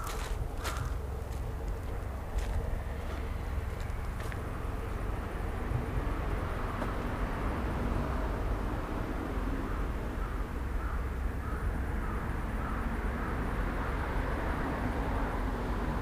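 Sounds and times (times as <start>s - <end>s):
steady low rumble: 0.0s - 13.5s.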